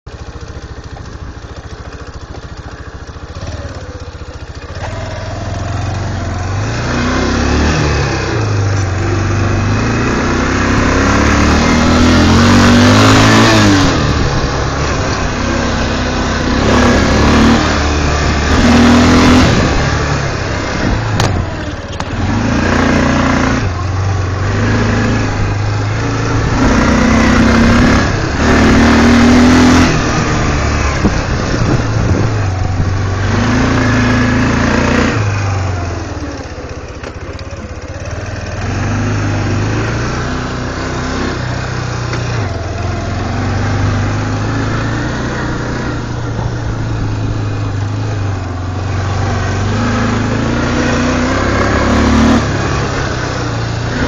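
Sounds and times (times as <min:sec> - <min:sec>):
atv engine revving: 0:00.1 - 0:54.0.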